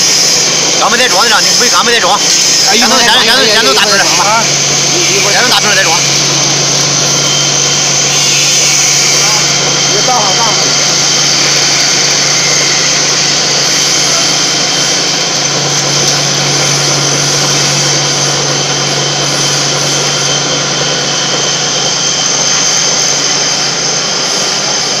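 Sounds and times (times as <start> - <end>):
grinding machine whining: 0.0 - 25.0.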